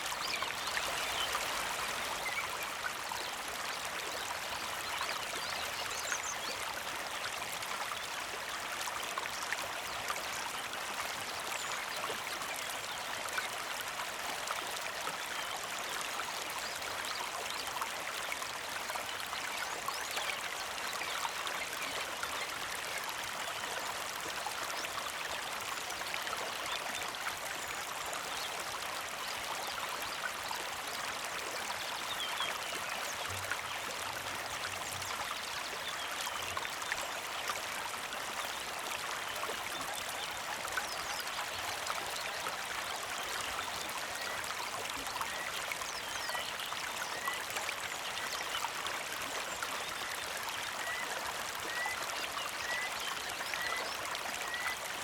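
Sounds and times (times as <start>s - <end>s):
creek trickling over stones: 0.0s - 55.0s.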